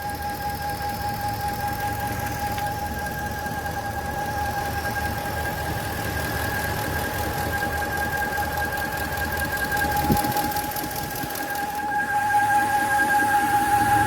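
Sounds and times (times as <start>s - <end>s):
diesel truck engine rumbling: 0.0s - 14.0s
high-pitched whistle: 0.0s - 14.0s.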